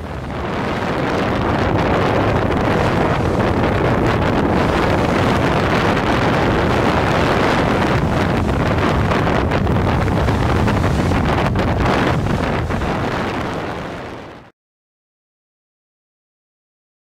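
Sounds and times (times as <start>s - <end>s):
wind buffeting microphone: 0.0s - 14.5s.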